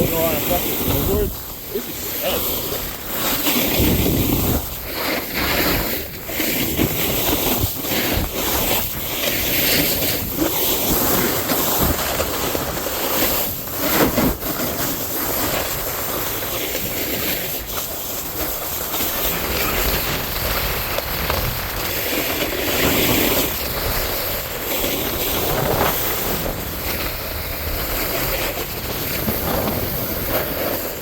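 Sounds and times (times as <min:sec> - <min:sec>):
wind buffeting microphone: 0:00.0 - 0:13.8, 0:17.0 - 0:31.0
snowboard scraping through slush: 0:00.0 - 0:31.0.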